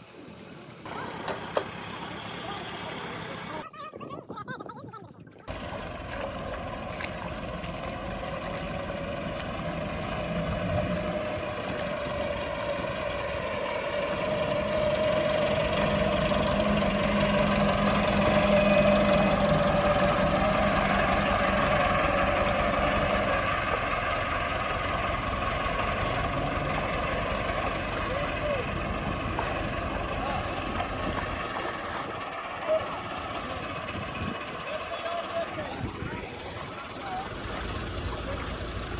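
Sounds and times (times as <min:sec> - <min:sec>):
heavy diesel engine running: 0:00.0 - 0:03.7, 0:05.5 - 0:38.9.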